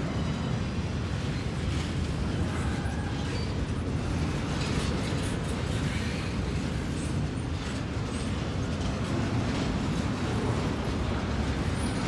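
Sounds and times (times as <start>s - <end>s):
steel wheels rumbling on track: 0.0s - 12.0s.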